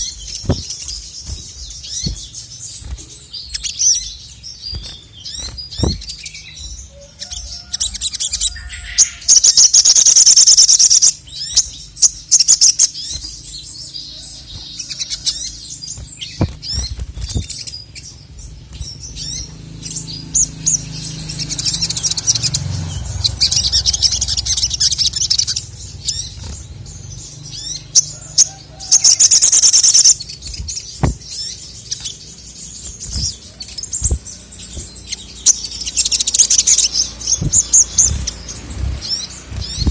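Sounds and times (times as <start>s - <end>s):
bird chirps: 0.0s - 39.9s
sunbird trilling song: 0.0s - 39.9s.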